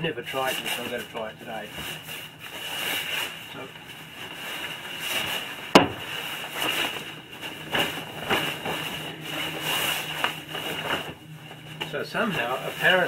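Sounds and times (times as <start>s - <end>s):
fabric rustling and flapping: 0.0s - 13.0s.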